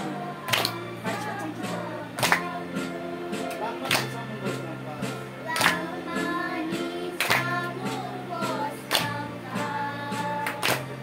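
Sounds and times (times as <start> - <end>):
children and woman singing: 0.0 - 4.0, 5.4 - 11.0
sharp clapping beat: 0.2 - 11.0.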